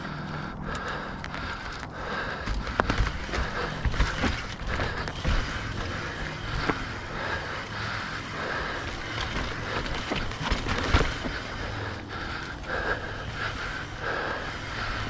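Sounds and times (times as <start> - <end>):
bike rattling over bumps: 0.0 - 15.0
tyre and wind noise: 1.0 - 15.0.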